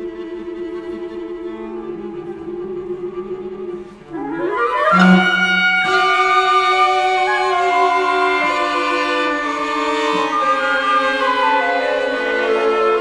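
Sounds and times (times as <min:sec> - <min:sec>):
classical bowed strings: 0:00.0 - 0:13.0.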